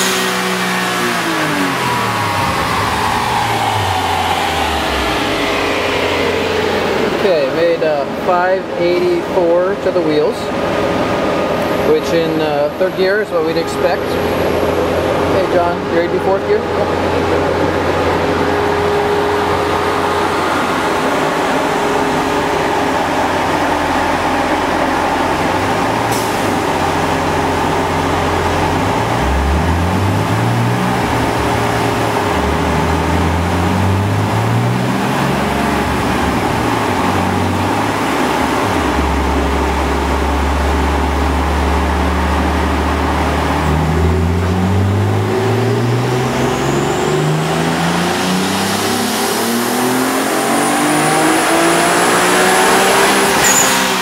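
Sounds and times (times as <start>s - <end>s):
car engine revving on dyno: 0.0s - 54.0s
high whine: 0.0s - 54.0s.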